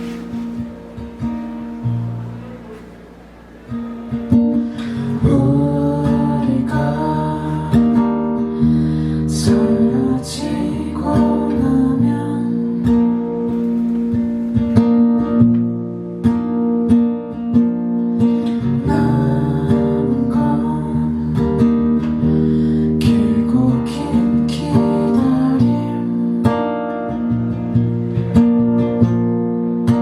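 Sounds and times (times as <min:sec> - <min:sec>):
acoustic guitar strummed and picked: 0:00.0 - 0:30.0.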